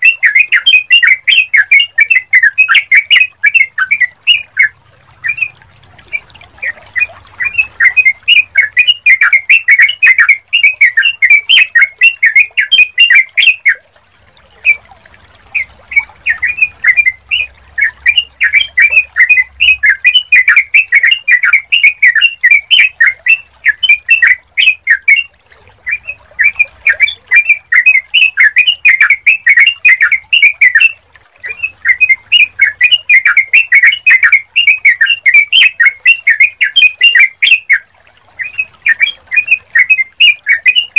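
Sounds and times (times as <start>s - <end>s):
bulbuls chirping: 0.0s - 13.8s, 15.5s - 37.8s, 38.4s - 40.9s.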